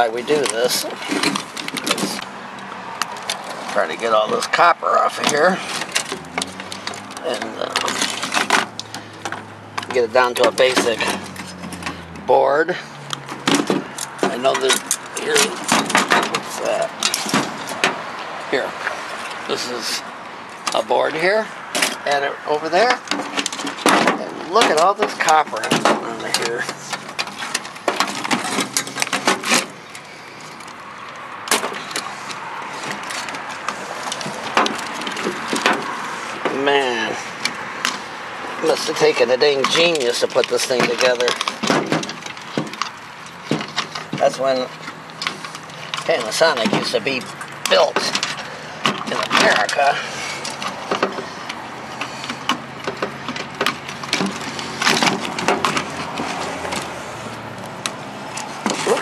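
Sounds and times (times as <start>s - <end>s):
clicks and rattles of wiring: 0.0s - 59.0s.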